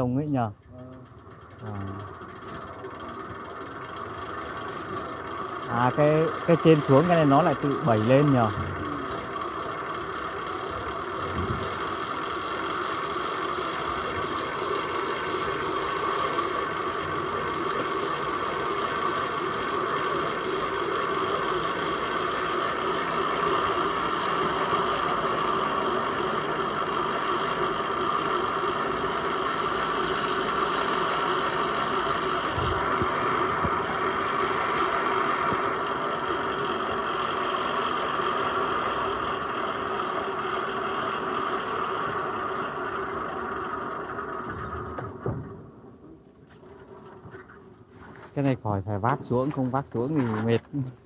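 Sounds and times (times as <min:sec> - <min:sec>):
winch whirring and rattling: 0:00.0 - 0:51.0.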